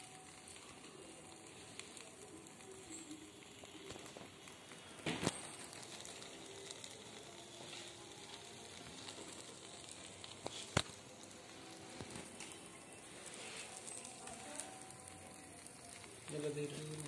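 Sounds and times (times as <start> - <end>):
food sizzling on a grill: 0.0 - 17.0.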